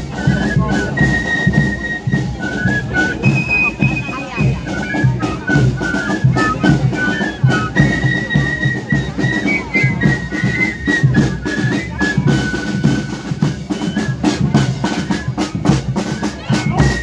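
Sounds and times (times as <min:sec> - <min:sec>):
cymbals: 0:00.0 - 0:17.0
flutes playing melody: 0:00.0 - 0:17.0
snare drums: 0:00.0 - 0:17.0.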